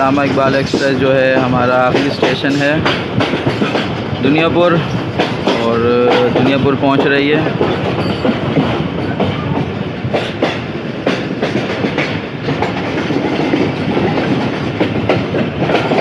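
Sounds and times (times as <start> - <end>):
clatter over rail joints: 0.0 - 16.0
train wheels rumbling on rail: 0.0 - 16.0.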